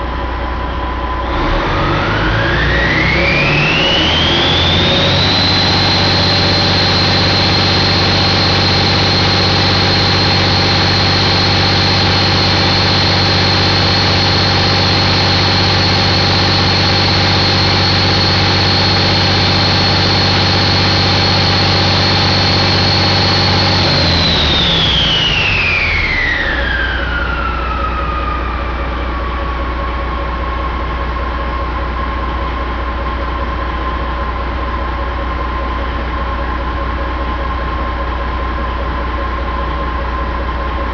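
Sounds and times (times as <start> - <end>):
diesel engine running: 0.0 - 40.9
turbocharger whine: 0.0 - 40.9.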